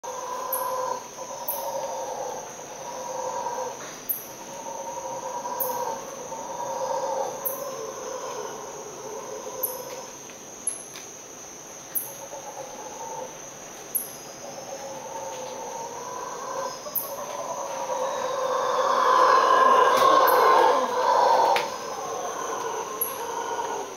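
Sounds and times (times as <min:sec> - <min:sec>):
insect buzz: 0:00.0 - 0:23.9
howler monkeys roaring: 0:00.1 - 0:10.1, 0:14.3 - 0:23.9.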